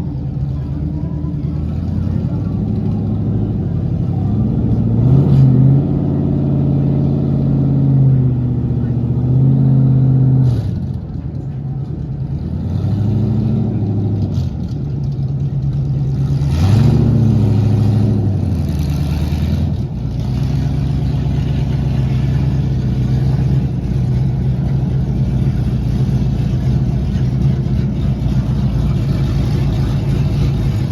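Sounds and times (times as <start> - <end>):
race car engine idling: 0.0 - 5.1, 6.0 - 30.9.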